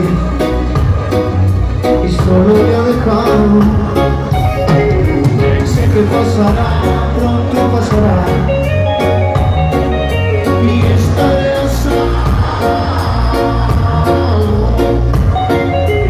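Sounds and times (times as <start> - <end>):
man singing: 0.0 - 0.7, 1.8 - 16.0
bass guitar: 0.0 - 16.0
drums: 0.0 - 16.0
electric guitars: 0.0 - 16.0
keyboard: 0.0 - 16.0.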